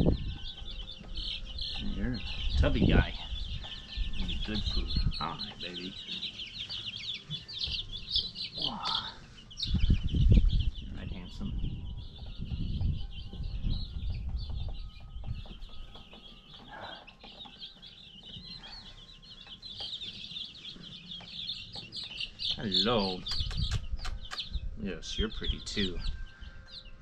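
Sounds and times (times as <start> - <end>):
chicks peeping: 0.0 - 27.0.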